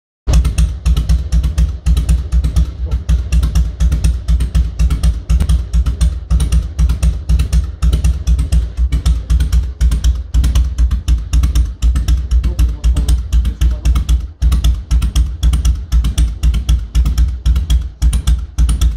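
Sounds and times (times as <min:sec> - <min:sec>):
motorcycle engine idling: 0:00.3 - 0:18.9.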